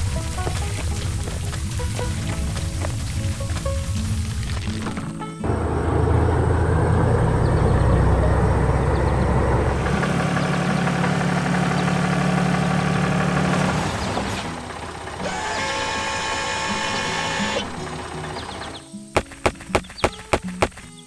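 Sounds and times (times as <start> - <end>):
engine droning: 0.0 - 20.8.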